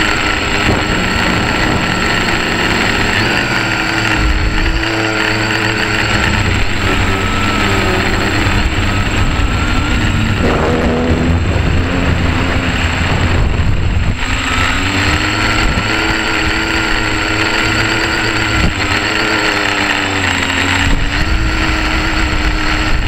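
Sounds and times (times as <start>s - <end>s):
quadcopter propellers buzzing: 0.0s - 23.0s.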